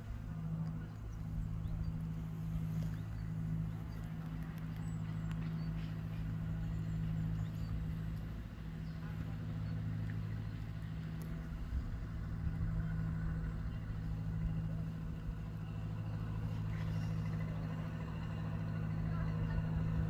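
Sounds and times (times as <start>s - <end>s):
distant engine hum: 0.0s - 20.0s.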